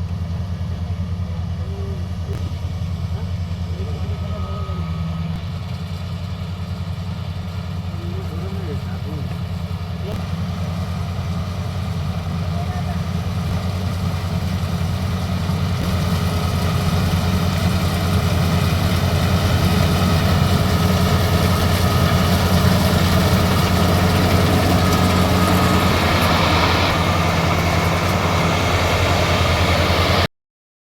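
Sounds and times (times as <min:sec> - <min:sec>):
combine harvester engine running: 0:00.0 - 0:30.3.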